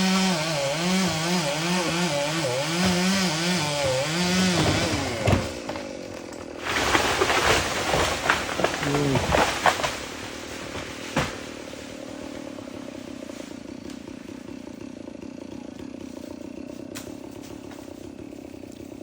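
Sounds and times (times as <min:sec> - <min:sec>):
chainsaw engine idling: 0:00.0 - 0:19.0.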